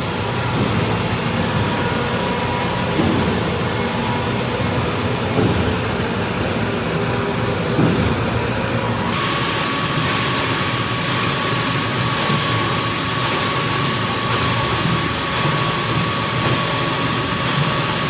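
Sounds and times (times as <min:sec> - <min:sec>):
concrete mixer truck rumbling: 0:00.0 - 0:18.0
high mechanical whine: 0:00.0 - 0:18.0.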